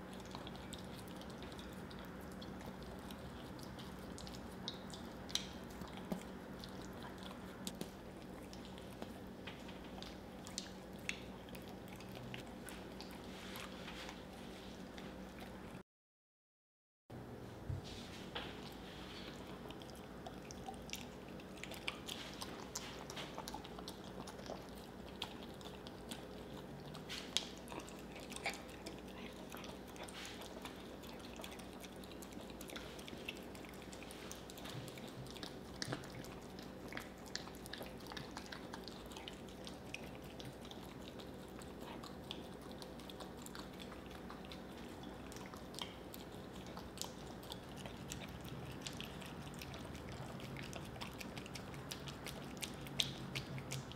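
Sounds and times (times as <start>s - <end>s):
dog licking and smacking lips: 0.0s - 15.8s, 18.4s - 53.9s.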